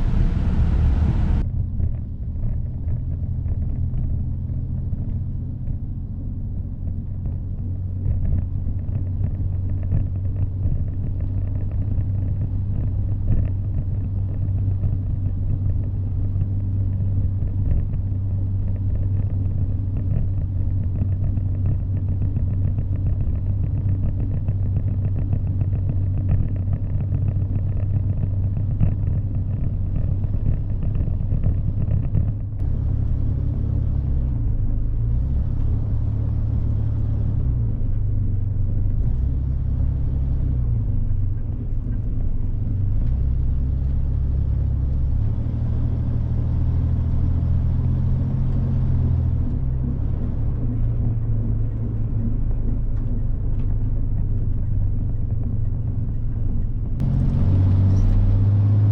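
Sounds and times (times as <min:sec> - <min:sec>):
car engine rumble: 0:00.0 - 0:58.9.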